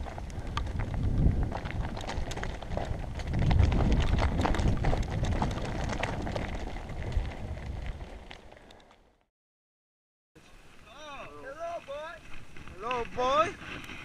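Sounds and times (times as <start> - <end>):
wind buffeting camera: 0.0 - 9.0, 11.7 - 14.0
bike rattling: 0.0 - 9.2, 11.6 - 14.0
bike tyres crunching on gravel: 0.0 - 9.2, 10.8 - 14.0.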